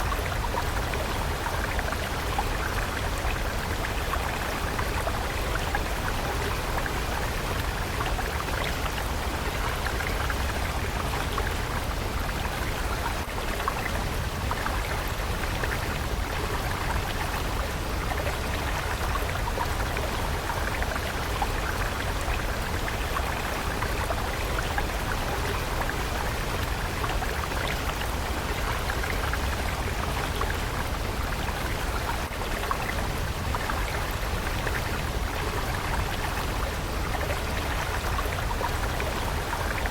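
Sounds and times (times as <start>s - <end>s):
water stream rushing: 0.0s - 39.9s.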